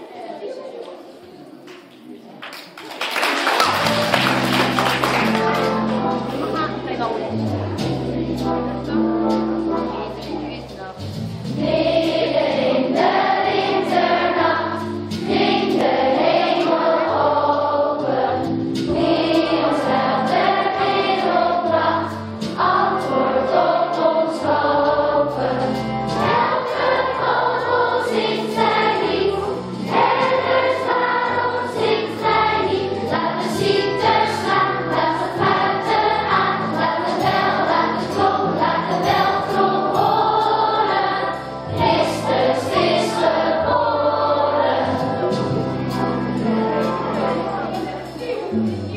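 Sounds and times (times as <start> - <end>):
children's choir singing: 3.2 - 10.6, 11.4 - 48.9
instrumental accompaniment: 3.6 - 48.9.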